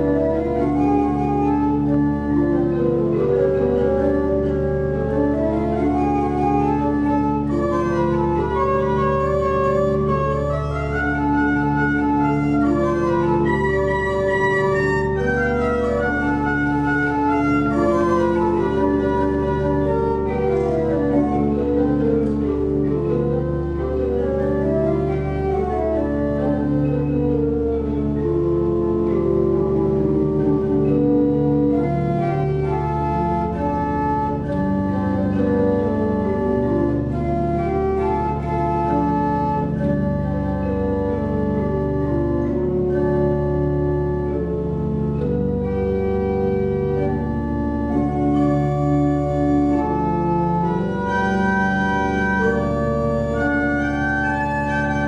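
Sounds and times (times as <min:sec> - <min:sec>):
pipe organ playing slow chords: 0:00.0 - 0:55.0.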